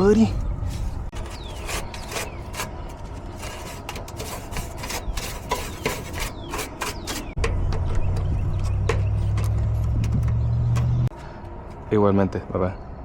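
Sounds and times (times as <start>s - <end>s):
clicking and scraping: 0.4s - 11.8s.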